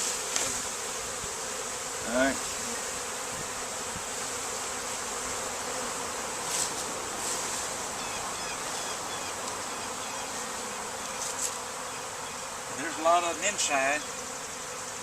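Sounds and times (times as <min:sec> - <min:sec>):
honeybee swarm buzzing: 0:00.0 - 0:15.0.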